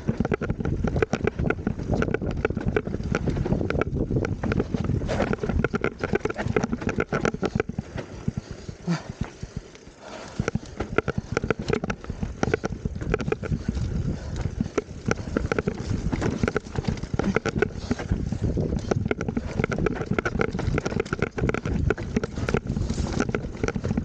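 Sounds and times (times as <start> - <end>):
mountain bike clattering on dirt trail: 0.0 - 24.0
tyre and wind rumble: 0.0 - 24.0.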